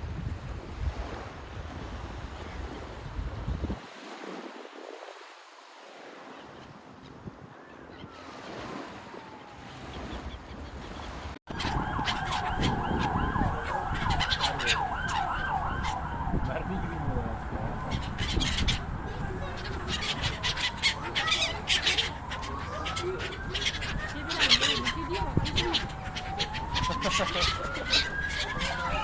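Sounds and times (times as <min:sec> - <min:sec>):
wind and surf: 0:00.0 - 0:29.0
seagulls calling: 0:02.3 - 0:03.0, 0:05.9 - 0:29.0.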